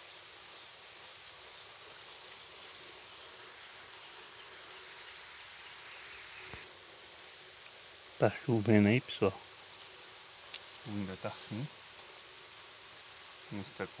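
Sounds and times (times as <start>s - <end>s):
light rain falling: 0.0s - 14.0s.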